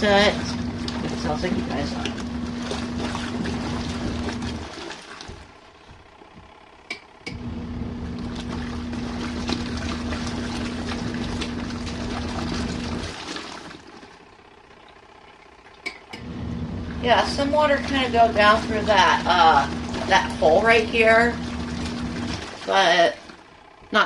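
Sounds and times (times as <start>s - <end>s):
water sloshing: 0.0s - 6.6s, 7.3s - 23.8s
washing machine motor humming: 0.0s - 24.0s.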